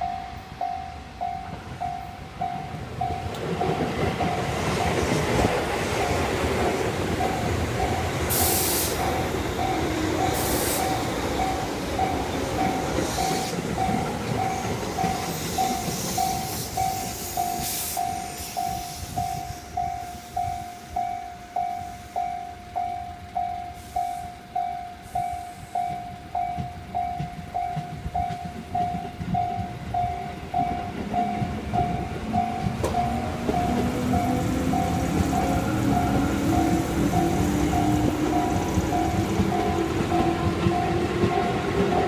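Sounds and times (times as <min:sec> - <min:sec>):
level crossing alarm bell: 0:00.0 - 0:06.5, 0:07.1 - 0:42.0
train running over crossing: 0:00.0 - 0:42.0.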